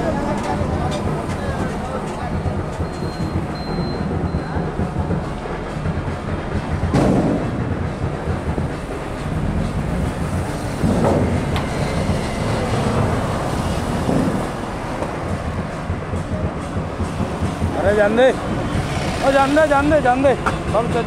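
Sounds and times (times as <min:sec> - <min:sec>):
low rumble of traffic: 0:00.0 - 0:21.0.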